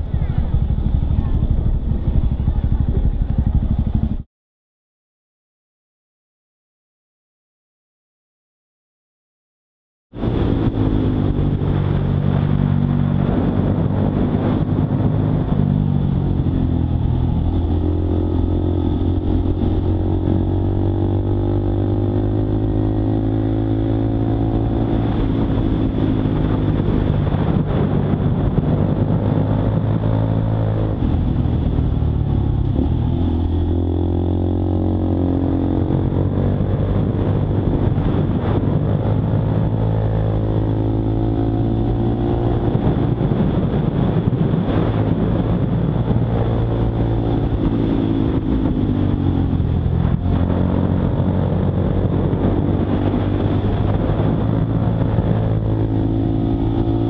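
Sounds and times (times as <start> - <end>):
motorcycle engine running: 0.0 - 4.2, 10.2 - 57.0.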